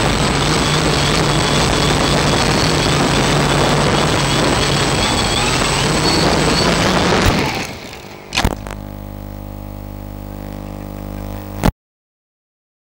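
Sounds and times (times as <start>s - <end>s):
drone motors and propellers: 0.0s - 11.7s
drone thudding over: 0.0s - 11.7s
steady electrical buzz: 0.0s - 11.7s.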